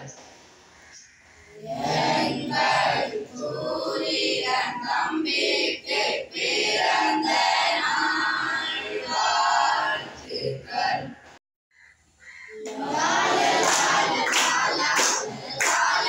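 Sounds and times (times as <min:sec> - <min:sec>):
boys singing in unison: 0:01.6 - 0:11.2, 0:12.6 - 0:16.0.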